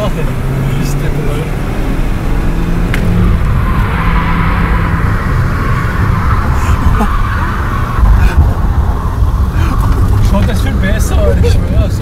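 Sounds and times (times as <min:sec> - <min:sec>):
car engine from inside cabin: 0:00.0 - 0:12.0
tyre and road rumble: 0:00.0 - 0:12.0.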